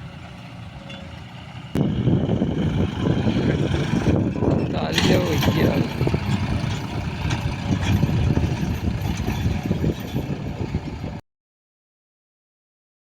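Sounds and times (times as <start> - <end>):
tractor engine rumbling: 0.0 - 11.2.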